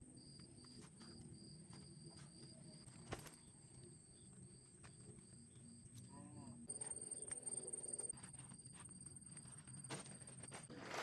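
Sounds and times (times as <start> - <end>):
insects buzzing and chirping: 0.2 - 11.0.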